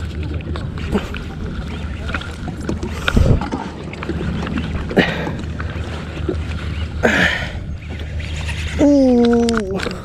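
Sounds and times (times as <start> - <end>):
low wind rumble on microphone: 0.0 - 10.0
water sloshing against hull: 0.0 - 10.0.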